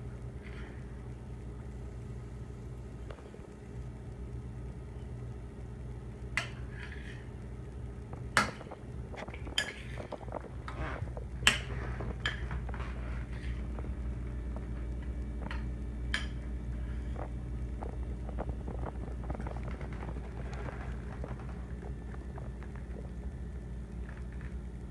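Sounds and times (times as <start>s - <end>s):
low hum: 0.0s - 24.9s.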